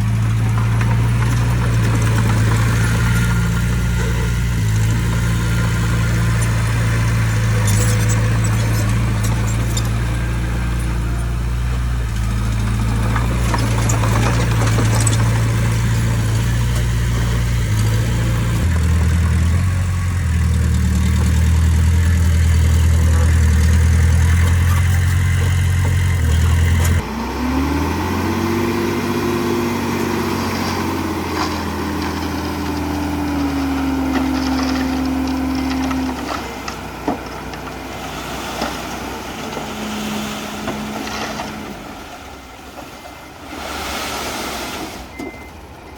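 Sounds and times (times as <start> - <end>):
diesel engine running: 0.0 - 44.4.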